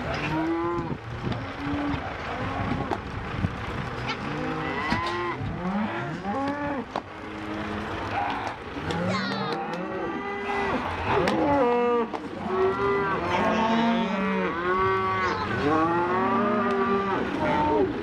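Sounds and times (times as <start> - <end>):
cows and calves bawling: 0.0 - 18.0.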